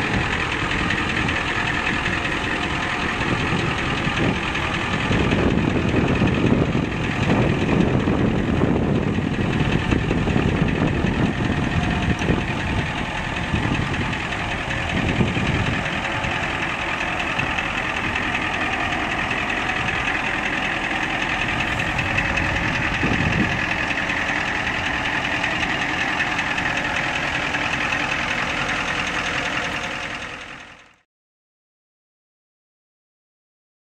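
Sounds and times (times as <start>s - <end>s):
pickup engine idling: 0.0s - 31.0s.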